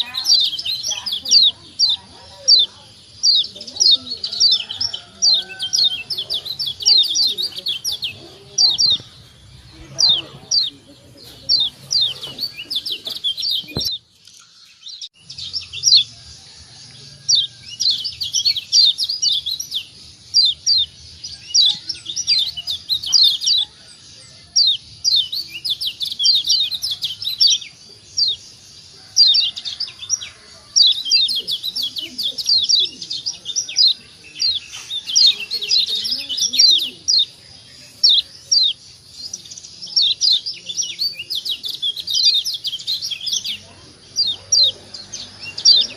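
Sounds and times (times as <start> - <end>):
bird giving high chirps: 0.0 - 16.1, 17.2 - 23.8, 24.6 - 45.9.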